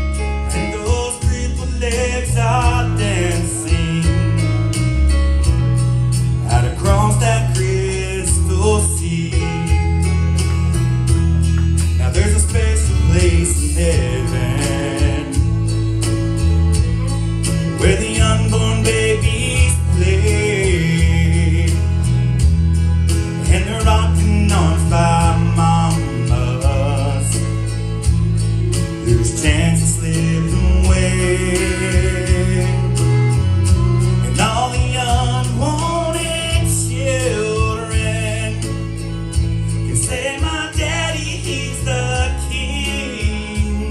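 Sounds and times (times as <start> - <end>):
live country gospel band: 0.0 - 43.9.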